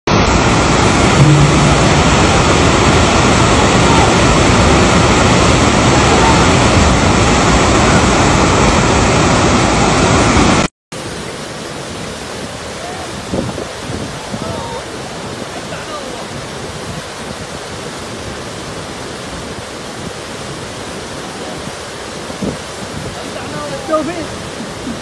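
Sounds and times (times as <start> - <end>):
floodwater rushing: 0.1 - 25.0.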